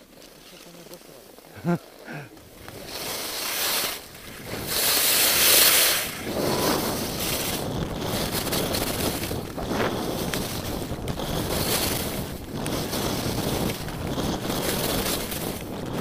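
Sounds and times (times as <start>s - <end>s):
skis scraping packed snow: 0.0s - 16.0s
wind buffeting microphone: 2.2s - 16.0s.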